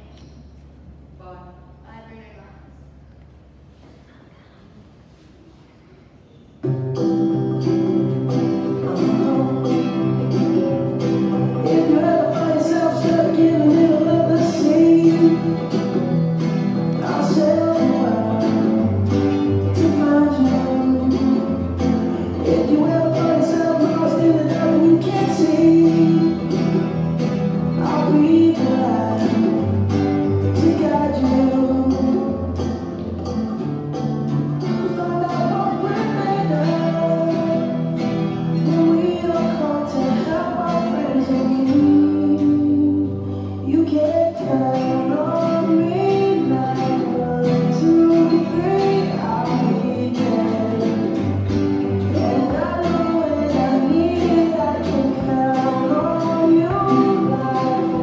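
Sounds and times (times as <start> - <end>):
acoustic guitars strumming: 0.0 - 1.3, 3.7 - 58.0
person singing: 6.6 - 58.0.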